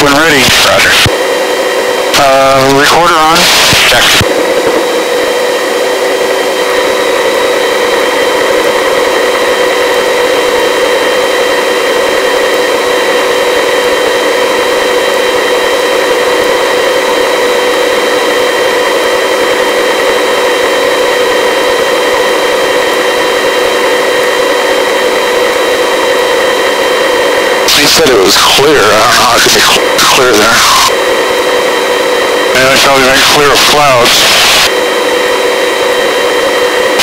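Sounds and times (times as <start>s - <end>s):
helicopter rotor rush: 0.0s - 37.0s
helicopter turbine whine: 0.0s - 37.0s.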